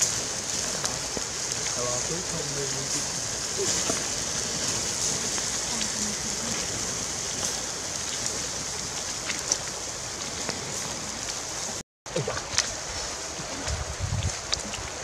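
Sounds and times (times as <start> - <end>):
fish sizzling on a grill: 0.0 - 11.8, 12.6 - 15.0
fire crackling and popping: 0.0 - 15.0.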